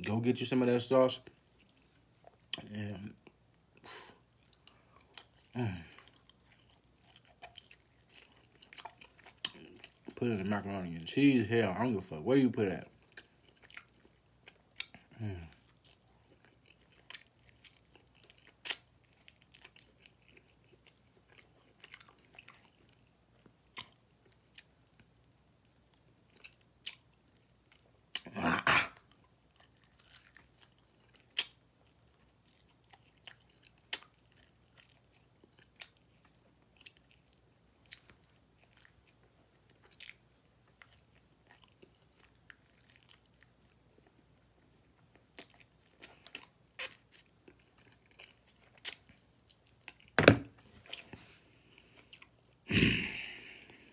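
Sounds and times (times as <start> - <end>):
person chewing with wet smacks: 1.2 - 10.5, 12.6 - 28.3, 29.0 - 52.7.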